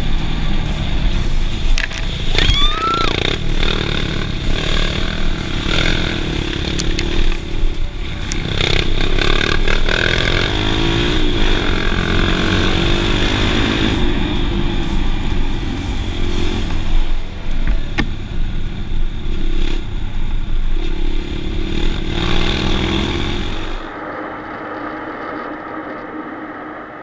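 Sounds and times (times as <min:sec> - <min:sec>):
dirt bike engine: 0:00.0 - 0:27.0
wind and tyre noise: 0:00.0 - 0:27.0.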